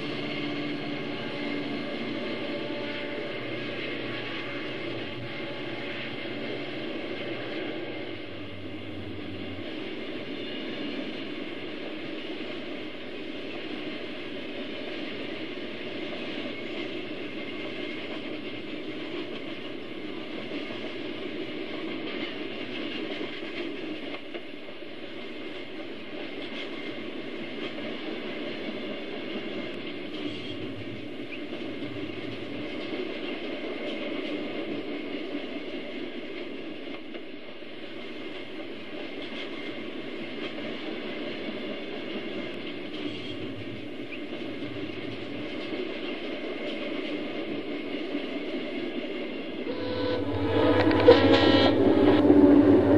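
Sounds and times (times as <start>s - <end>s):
model train rolling on track: 0.0s - 52.9s.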